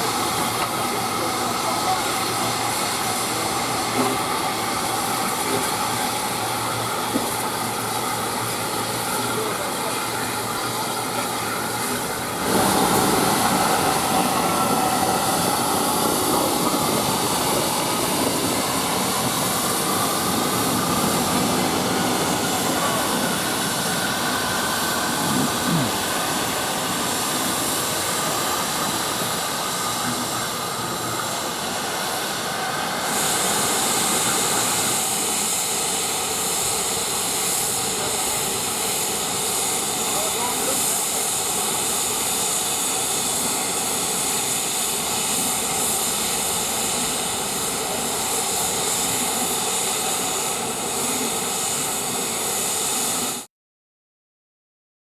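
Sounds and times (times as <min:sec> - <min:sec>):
steam locomotive hissing: 0:00.0 - 0:53.5.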